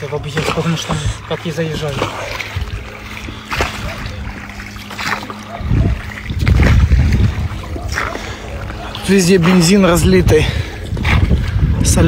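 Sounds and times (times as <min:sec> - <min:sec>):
oars splashing in water: 0:00.0 - 0:12.0
steady low hum: 0:00.0 - 0:12.0.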